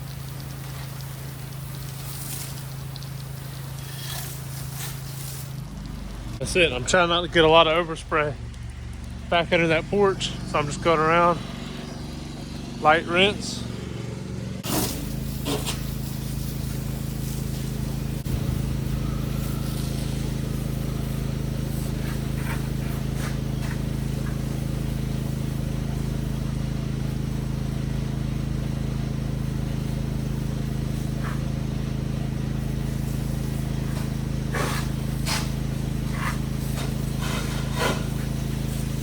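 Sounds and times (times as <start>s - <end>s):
pressure washer engine running: 0.0s - 39.0s
water spray hissing: 0.0s - 39.0s.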